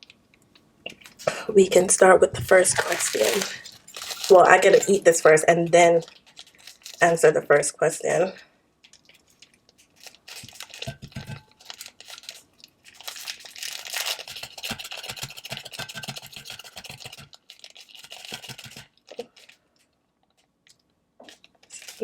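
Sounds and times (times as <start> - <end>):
plastic packaging crinkling and tearing: 2.4 - 7.2, 8.9 - 22.0.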